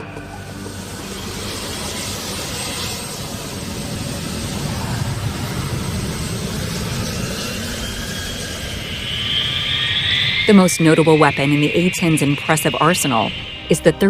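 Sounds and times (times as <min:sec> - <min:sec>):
jet aircraft engines: 0:00.0 - 0:14.0.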